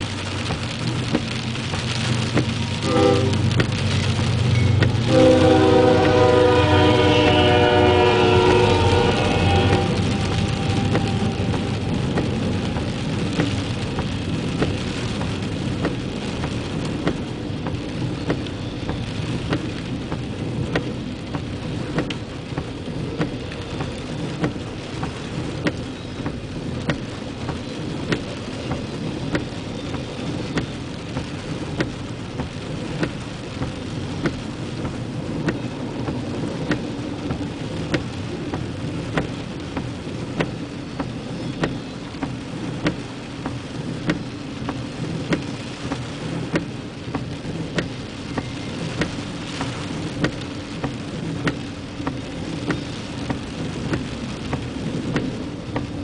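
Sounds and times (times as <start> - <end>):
rain falling: 0.0 - 56.0
freight train rumbling past: 2.0 - 56.0.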